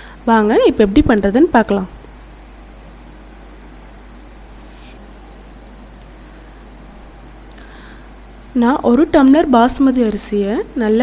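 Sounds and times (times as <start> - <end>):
high-pitched whine: 0.0 - 11.0
low hum: 0.0 - 11.0.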